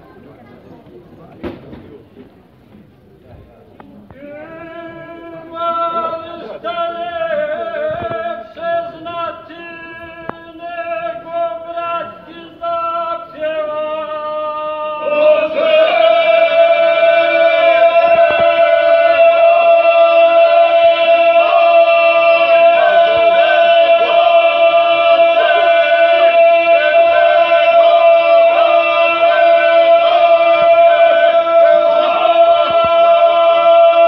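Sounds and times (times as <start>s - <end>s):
voices singing long held notes: 4.1s - 34.0s
lead voice singing folk song: 4.2s - 34.0s.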